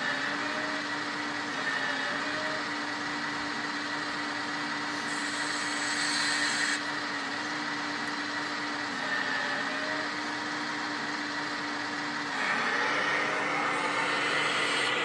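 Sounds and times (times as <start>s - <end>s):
hydraulic pump hum and whine: 0.0s - 15.0s.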